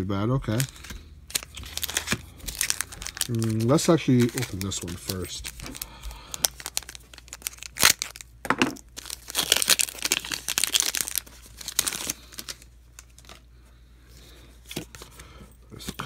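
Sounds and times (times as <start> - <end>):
foil wrapper ripping: 0.4 - 13.4
foil wrapper crinkling: 0.4 - 13.5.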